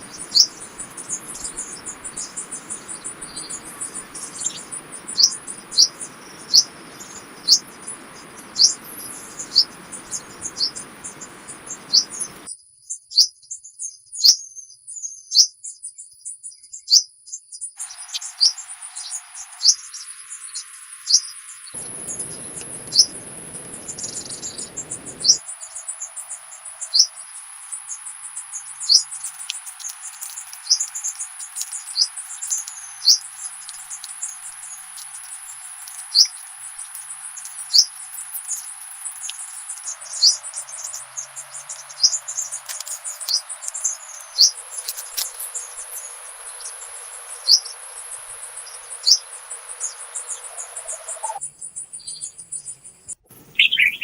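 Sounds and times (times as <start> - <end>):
high-pitched insect drone: 0.0 - 12.5, 17.8 - 51.4
small birds chirping: 0.0 - 54.0.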